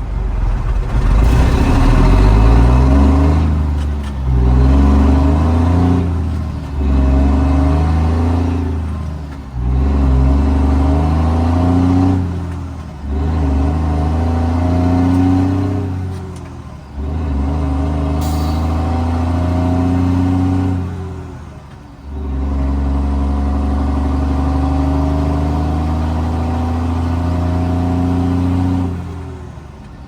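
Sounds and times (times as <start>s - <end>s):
diesel truck engine pulling hard: 0.0s - 30.0s.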